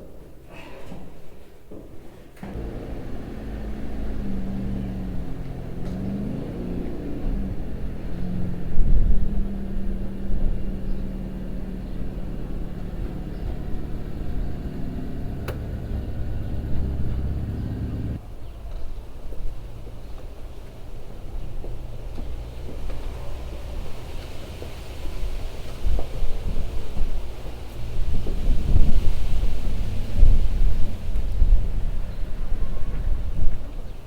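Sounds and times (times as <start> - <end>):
car engine running: 2.4 - 18.2, 19.4 - 33.2.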